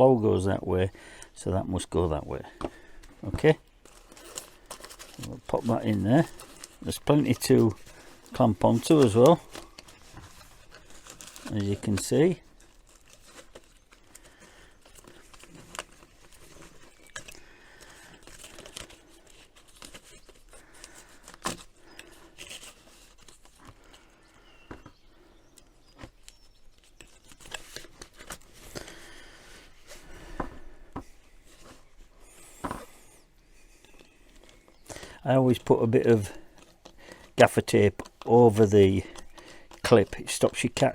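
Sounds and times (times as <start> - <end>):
hose rustling and crinkling: 1.5 - 24.8, 25.9 - 40.9.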